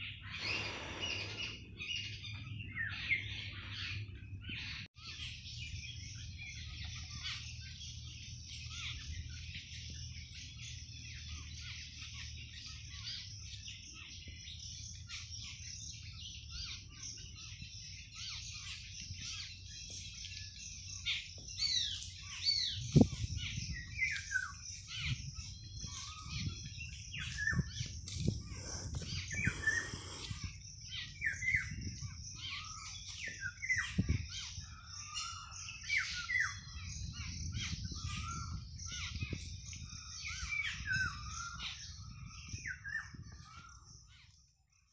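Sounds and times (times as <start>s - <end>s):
birds chirping and whistling: 0.0s - 44.9s.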